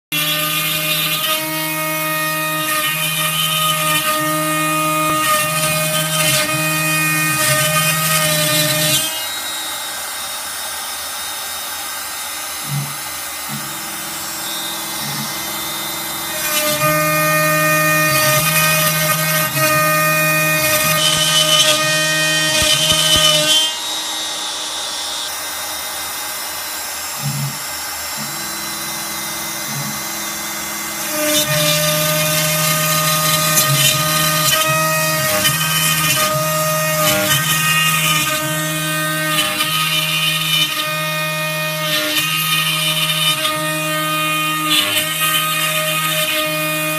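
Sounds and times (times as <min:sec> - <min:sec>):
router spinning with whine: 0:00.2 - 0:46.9.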